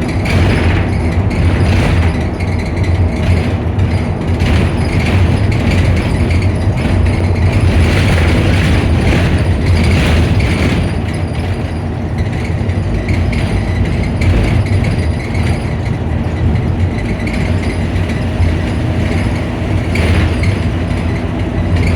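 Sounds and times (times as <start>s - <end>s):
bus diesel engine idling: 0.0s - 21.9s
engine cooling fan whirring: 0.0s - 21.9s.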